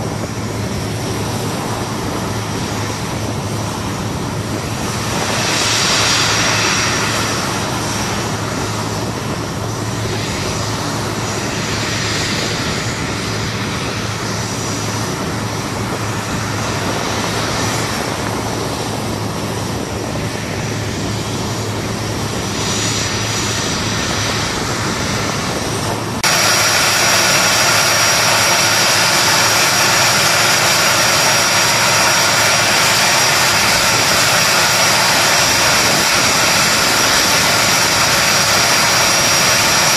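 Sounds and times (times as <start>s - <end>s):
jet turbine whine: 0.0s - 39.9s.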